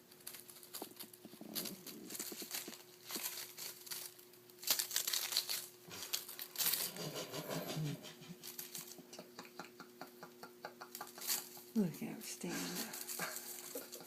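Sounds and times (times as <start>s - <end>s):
kittens scratching and rustling: 0.0s - 14.0s.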